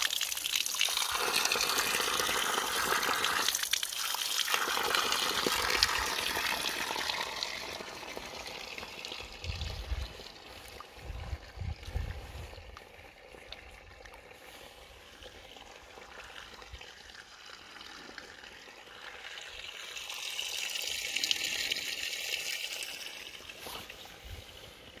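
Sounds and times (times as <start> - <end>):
stream trickling over stones: 0.0 - 25.0.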